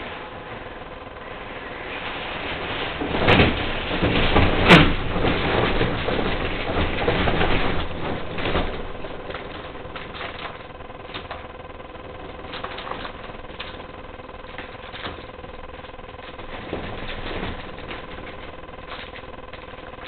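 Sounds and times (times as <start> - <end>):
roller shutter slats rattling: 1.5 - 20.0.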